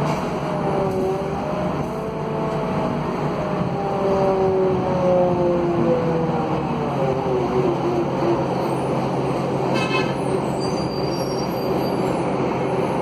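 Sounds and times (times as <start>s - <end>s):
bus diesel engine running: 0.0s - 13.0s
road noise: 0.0s - 13.0s.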